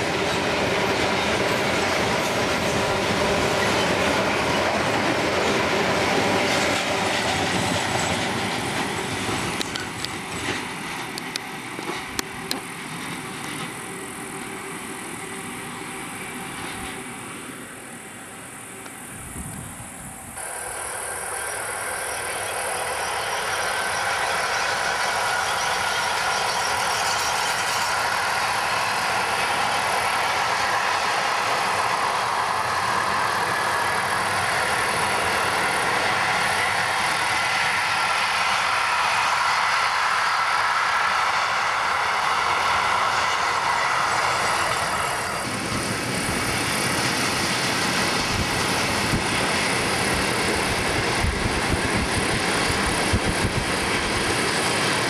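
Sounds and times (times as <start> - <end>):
freight train rumbling and rattling: 0.0 - 55.0.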